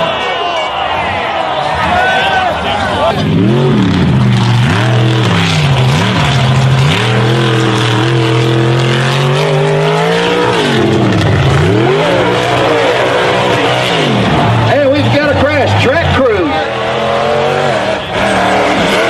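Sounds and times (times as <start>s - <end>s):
truck engine revving: 1.6s - 19.0s.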